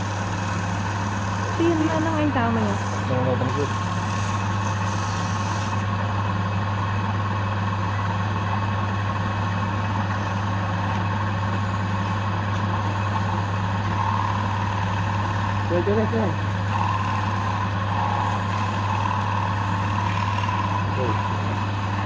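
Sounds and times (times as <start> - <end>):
lathe motor hum and whine: 0.0 - 22.0.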